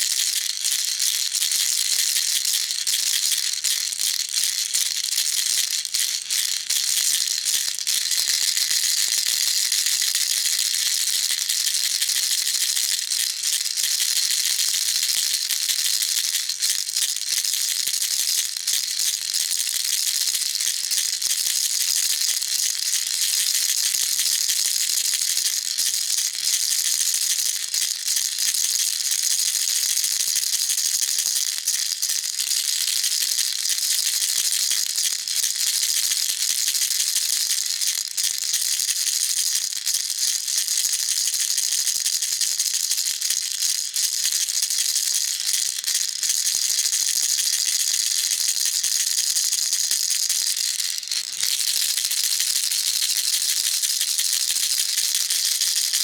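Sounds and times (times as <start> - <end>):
baby rattle shaking: 0.0 - 17.6, 18.4 - 56.0.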